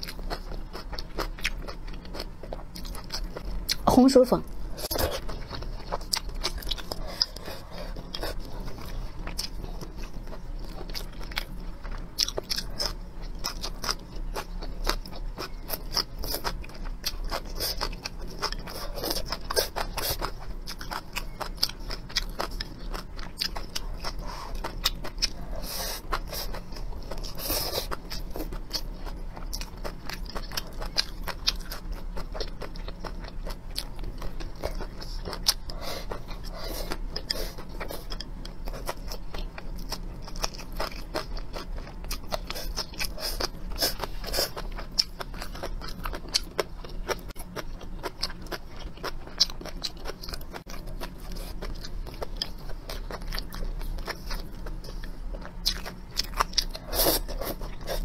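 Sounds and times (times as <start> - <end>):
wet chewing and slurping noodles: 0.0 - 3.9, 4.7 - 58.0.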